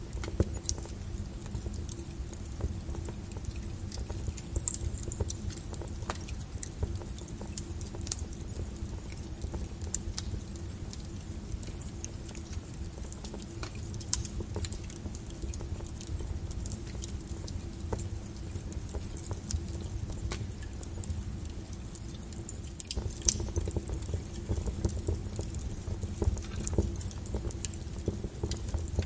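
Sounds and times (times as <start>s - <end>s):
faint steady hum: 0.0s - 29.0s
fire crackling and popping: 0.0s - 29.0s.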